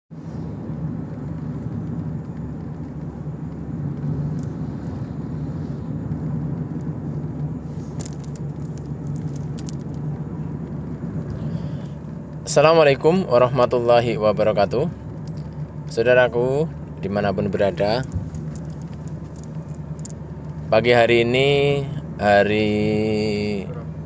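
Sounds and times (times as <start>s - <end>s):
car engine rumble: 0.1s - 24.0s
road noise: 0.1s - 24.0s.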